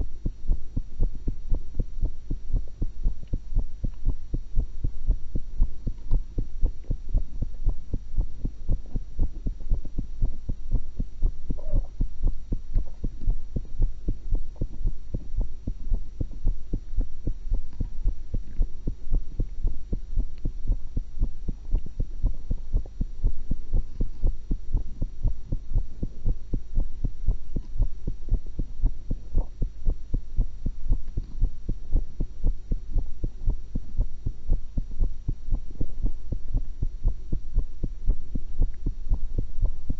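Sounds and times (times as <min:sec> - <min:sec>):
constant low hum: 0:00.0 - 0:39.9
heartbeat thumps: 0:00.0 - 0:39.9.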